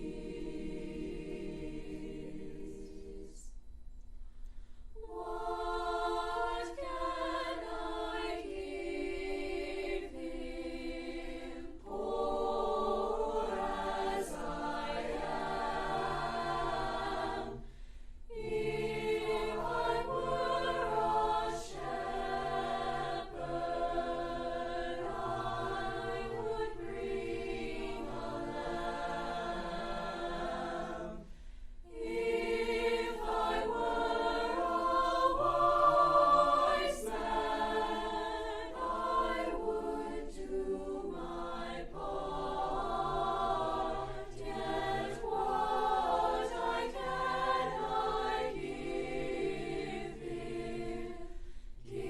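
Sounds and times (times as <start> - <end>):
choir singing: 0.0 - 3.6, 5.0 - 52.0.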